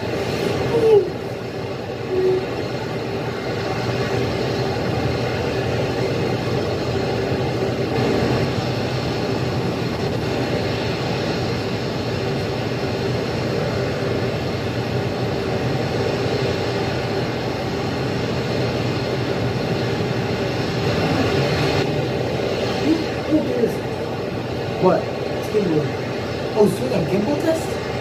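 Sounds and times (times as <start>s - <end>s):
rocket engine roaring: 0.0s - 28.0s.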